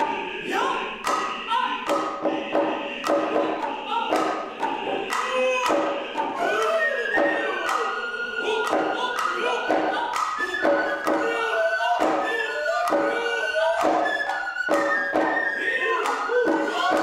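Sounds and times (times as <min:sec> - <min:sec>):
hand drums struck: 0:00.0 - 0:15.4, 0:16.0 - 0:17.0
drummers' vocal calls: 0:00.0 - 0:17.0.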